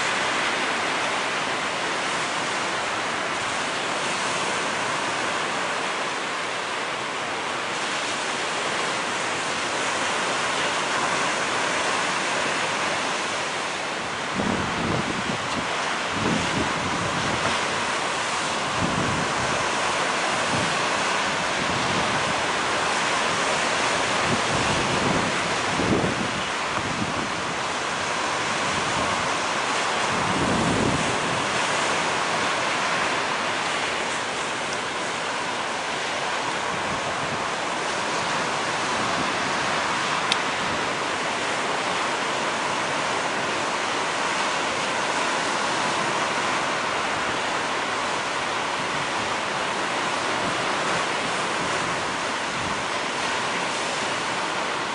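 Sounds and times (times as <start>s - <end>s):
ocean waves breaking: 0.0s - 54.9s.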